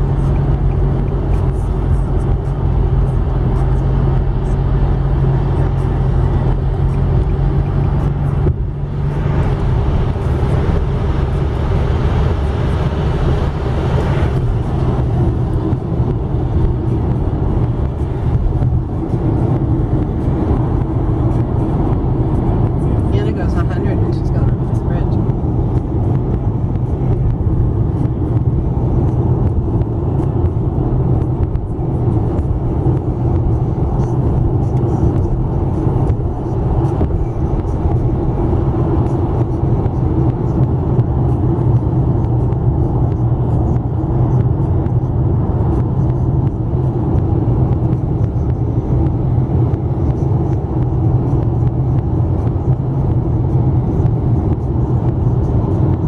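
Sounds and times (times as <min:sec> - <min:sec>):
car cabin road noise: 0:00.0 - 0:56.0.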